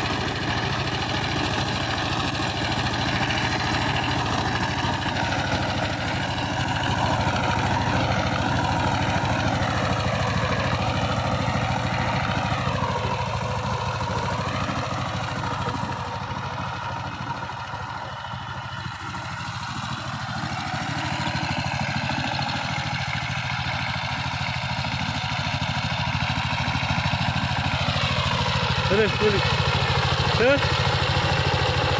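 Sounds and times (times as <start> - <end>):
diesel engine chugging: 0.0 - 31.9.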